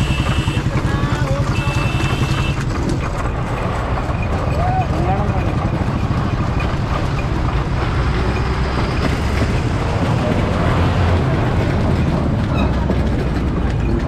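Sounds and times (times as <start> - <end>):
motorcycle engines rumbling: 0.0 - 14.0
road noise: 0.0 - 14.0.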